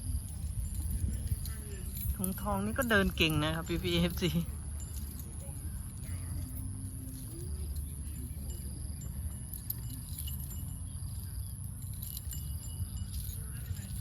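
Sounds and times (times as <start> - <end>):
faint metallic jingling: 0.0 - 14.0
steady low rumble: 0.0 - 14.0.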